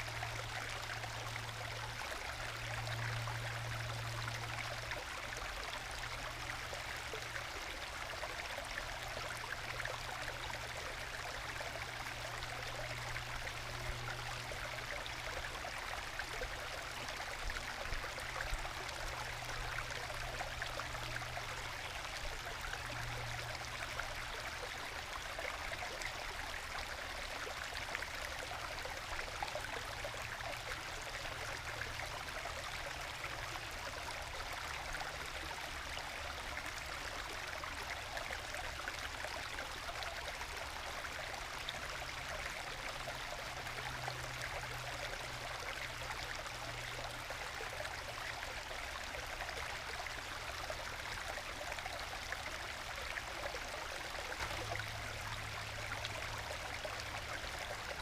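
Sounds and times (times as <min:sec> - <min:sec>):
stream trickling and gurgling: 0:00.0 - 0:58.0.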